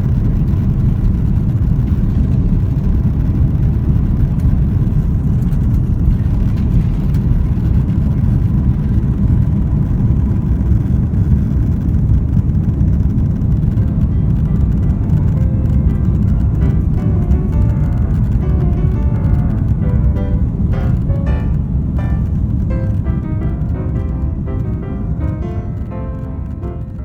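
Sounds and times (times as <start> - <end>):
airliner cabin jet rumble: 0.0 - 27.0.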